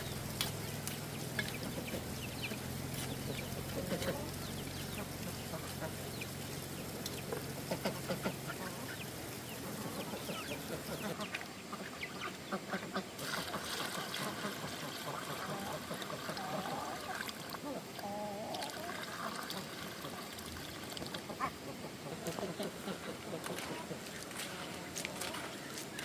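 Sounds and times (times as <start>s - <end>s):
chickens clucking: 0.0s - 26.0s
low steady hum: 0.0s - 26.0s.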